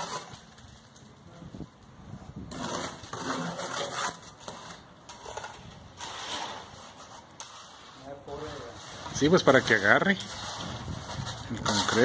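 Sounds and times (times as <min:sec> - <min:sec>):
trowel scraping gritty concrete: 0:00.0 - 0:01.0, 0:02.3 - 0:12.0.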